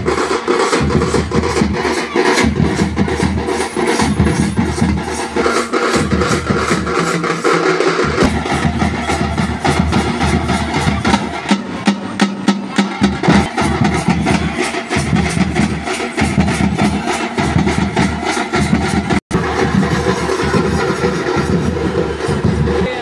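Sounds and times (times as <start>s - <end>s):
hand drums playing fast rhythm: 0.0s - 23.0s.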